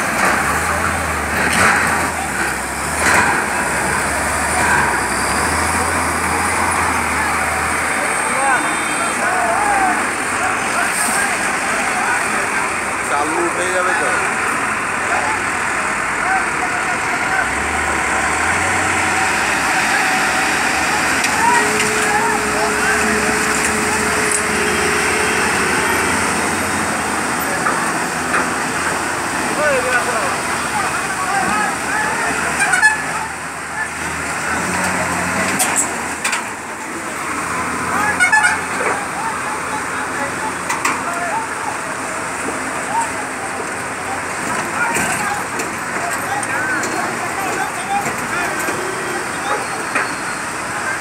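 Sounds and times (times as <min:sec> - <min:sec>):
heavy truck engines rumbling: 0:00.0 - 0:51.0.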